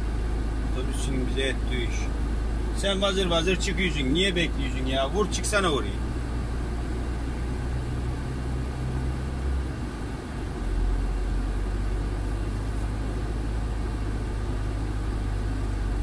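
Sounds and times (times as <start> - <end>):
truck diesel engine drone: 0.0 - 16.0.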